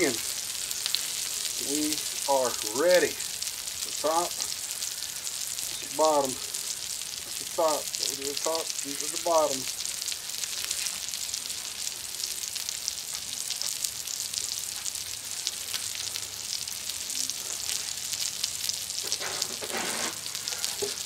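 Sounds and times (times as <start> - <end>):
burger patties sizzling on griddle: 0.0 - 21.0.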